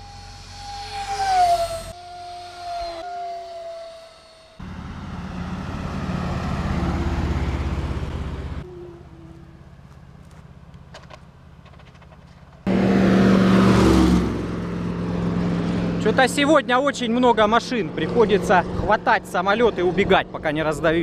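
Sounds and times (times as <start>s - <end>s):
vehicles passing by: 0.0s - 21.0s.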